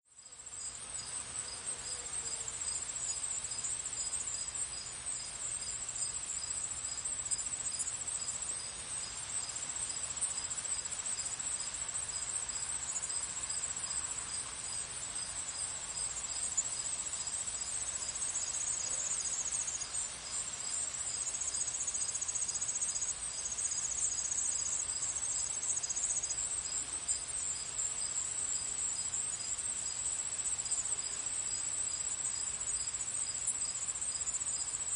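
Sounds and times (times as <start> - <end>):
crickets chirping chorus: 0.1 - 34.9
insect trill: 0.1 - 34.9
single cricket chirping rhythmically: 0.1 - 34.9.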